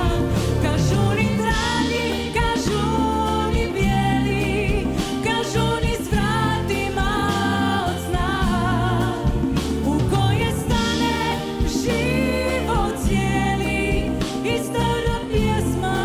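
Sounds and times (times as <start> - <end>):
live band playing: 0.0 - 16.0
woman singing: 0.0 - 16.0.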